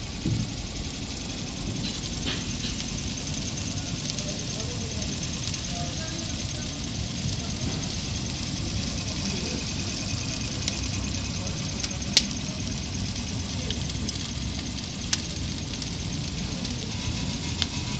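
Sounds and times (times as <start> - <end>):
low rumble and hiss: 0.0 - 17.9
wood fire crackling and popping: 0.0 - 17.9.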